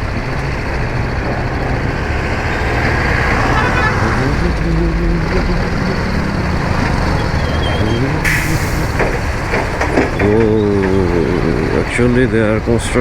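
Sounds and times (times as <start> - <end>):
traffic: 0.0 - 13.0.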